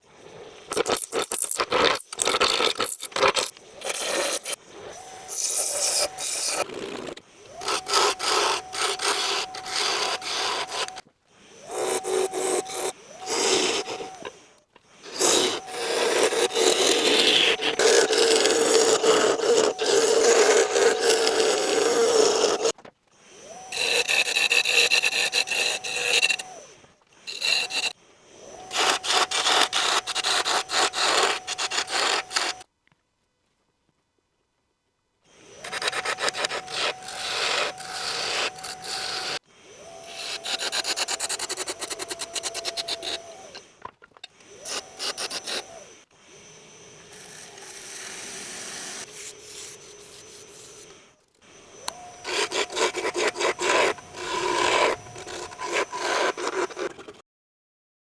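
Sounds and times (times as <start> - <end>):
tool scraping wood on a lathe: 0.3 - 14.4, 15.0 - 22.8, 23.4 - 32.6, 35.6 - 46.0, 46.9 - 51.1, 51.7 - 57.2.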